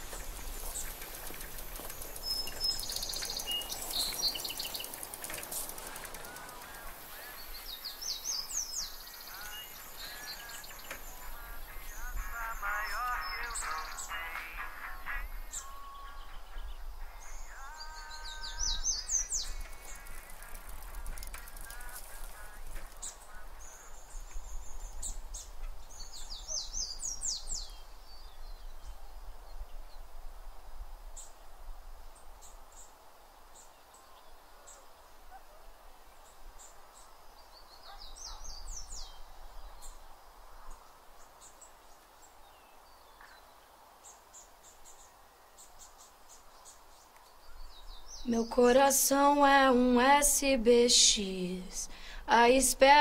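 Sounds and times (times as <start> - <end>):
birds chirping and trilling: 0.0 - 29.0, 36.2 - 53.0
faint steady hiss: 0.0 - 53.0.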